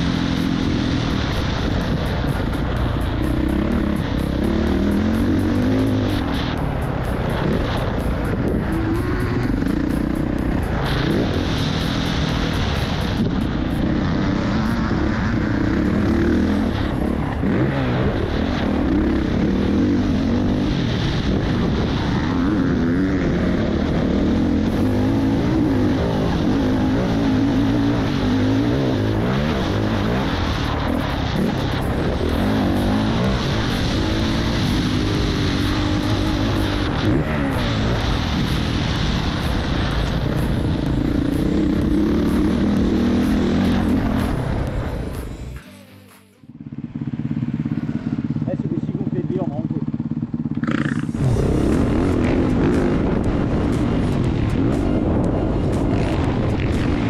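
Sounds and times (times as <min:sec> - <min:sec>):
motocross bike engine revving: 0:00.0 - 0:45.7, 0:46.6 - 0:57.0.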